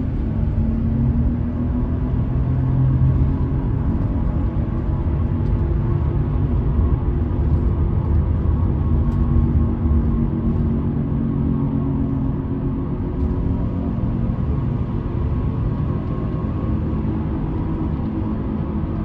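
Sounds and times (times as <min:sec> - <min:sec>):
car driving with wheel roar: 0:00.0 - 0:19.0.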